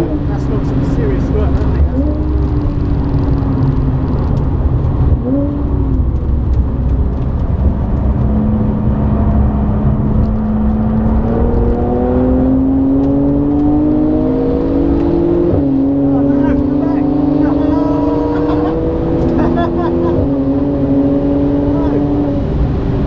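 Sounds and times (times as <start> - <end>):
car engine pulling hard: 0.0 - 23.0
road and tyre rumble: 0.0 - 23.0.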